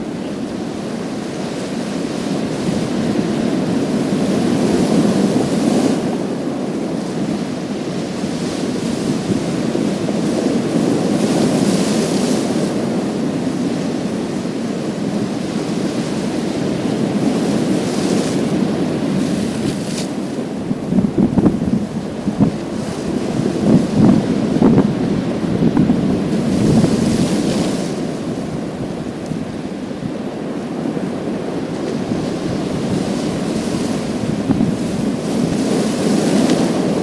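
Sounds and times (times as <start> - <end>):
waves breaking on pebble beach: 0.0 - 37.0.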